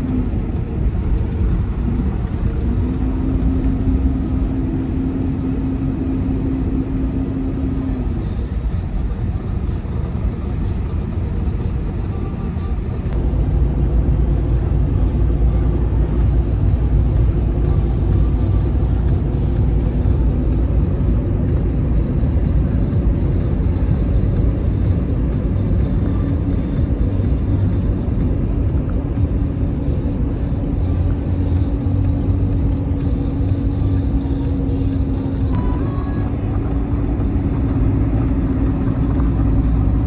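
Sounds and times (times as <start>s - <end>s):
truck engine running: 0.0s - 40.0s.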